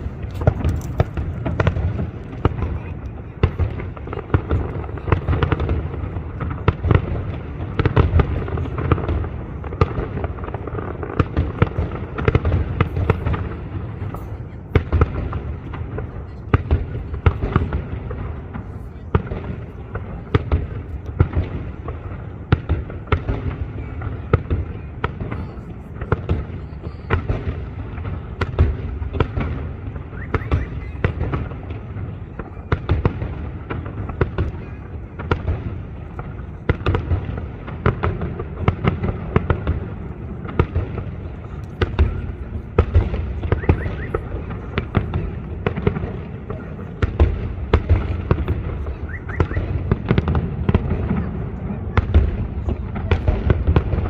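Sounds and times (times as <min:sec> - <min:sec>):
fireworks bursts and bangs: 0:00.0 - 0:54.0.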